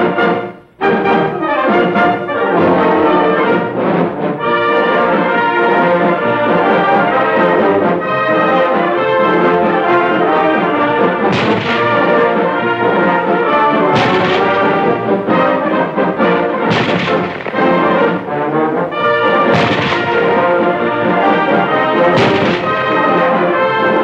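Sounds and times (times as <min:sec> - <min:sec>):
orchestral music with brass: 0:00.0 - 0:24.0.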